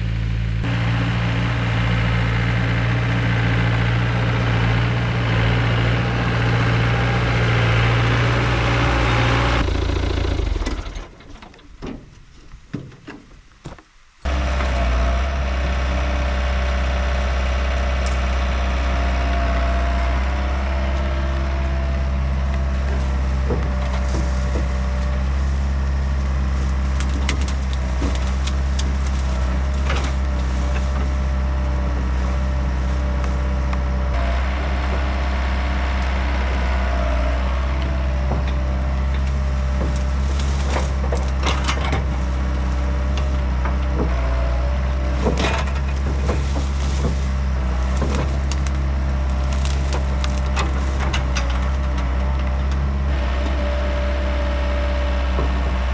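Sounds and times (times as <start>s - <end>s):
diesel engine under load: 0.0s - 13.0s, 14.2s - 55.9s
wood cracking and splintering: 0.6s - 55.9s.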